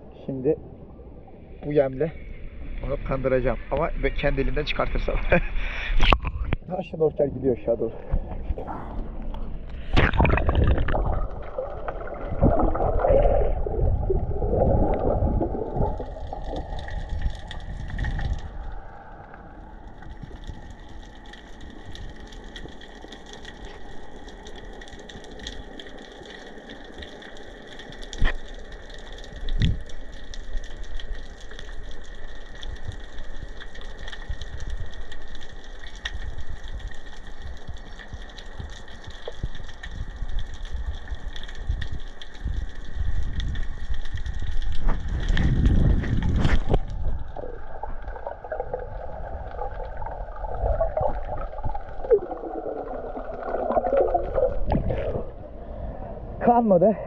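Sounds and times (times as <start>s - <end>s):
underwater rushing and sloshing: 0.0s - 56.4s
muffled underwater hiss: 1.5s - 6.7s, 7.8s - 56.3s.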